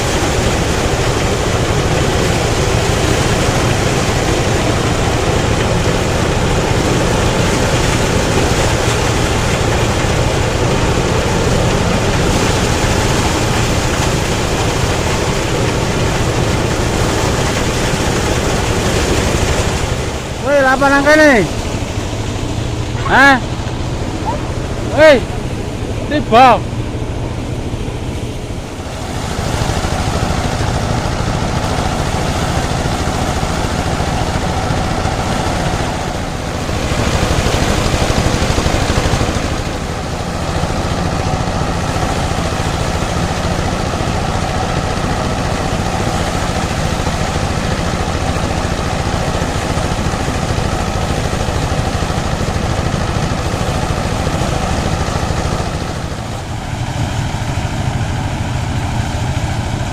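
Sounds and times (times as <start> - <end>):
threshing machine running: 0.0 - 59.9.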